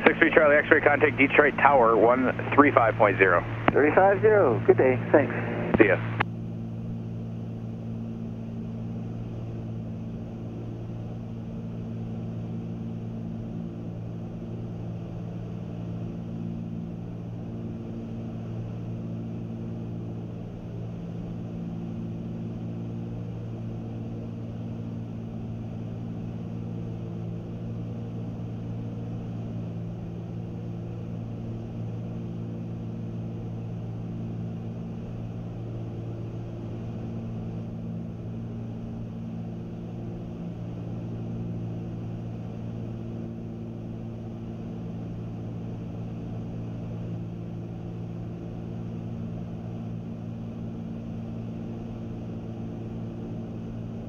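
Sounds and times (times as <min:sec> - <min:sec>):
propeller engines droning: 0:00.0 - 0:54.0.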